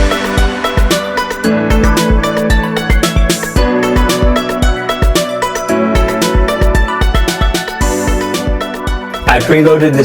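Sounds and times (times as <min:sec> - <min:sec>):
upbeat music with drum beat: 0:00.0 - 0:10.0.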